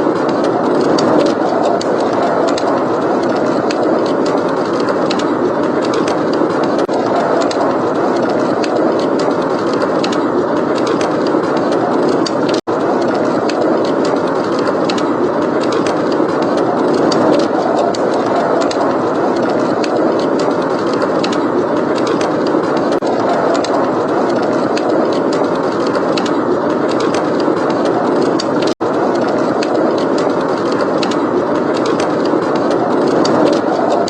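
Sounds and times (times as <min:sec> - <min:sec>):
blizzard wind blowing: 0:00.0 - 0:34.0
wood fire crackling: 0:00.0 - 0:34.0.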